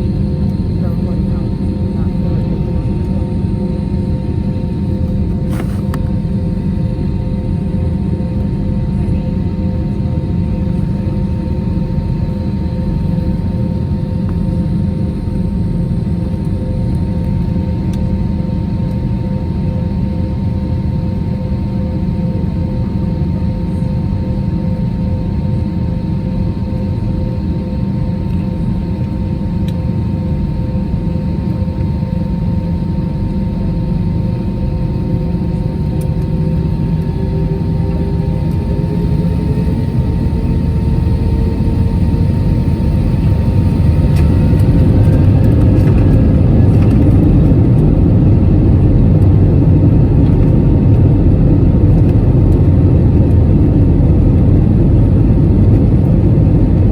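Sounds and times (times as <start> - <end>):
jet engine cabin rumble: 0.0 - 56.9.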